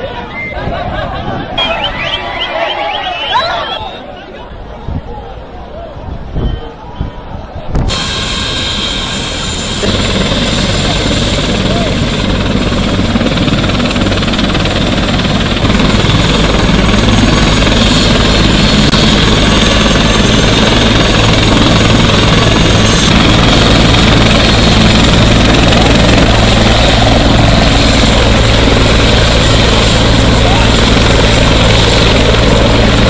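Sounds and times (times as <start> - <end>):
helicopter rotor and engine drone: 0.0 - 3.8, 7.9 - 33.0.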